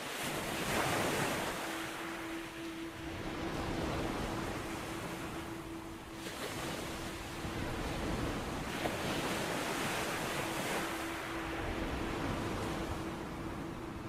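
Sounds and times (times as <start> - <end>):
ocean waves washing in: 0.0 - 14.0
faint steady hum: 0.4 - 14.0.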